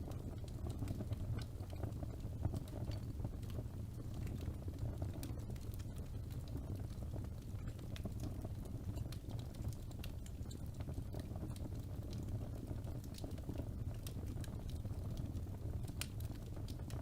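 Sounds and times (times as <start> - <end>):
fire crackling and popping: 0.0 - 17.0
rumble of flames: 0.0 - 17.0.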